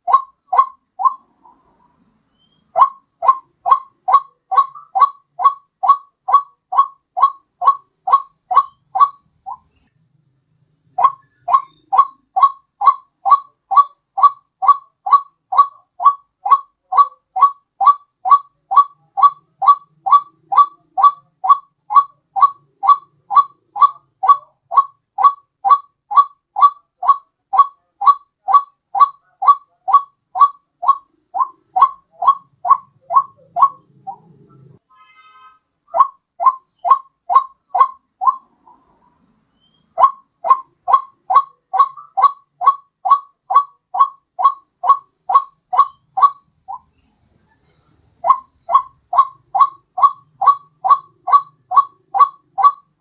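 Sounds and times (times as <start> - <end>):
waterhen calls: 0.0 - 9.9, 10.9 - 34.8, 35.9 - 47.0, 48.2 - 53.0.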